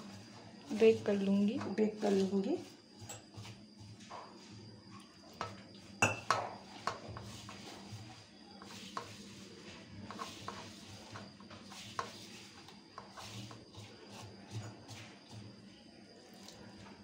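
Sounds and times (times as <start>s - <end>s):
hands rubbing flour in a bowl: 0.0s - 4.7s, 5.8s - 17.0s.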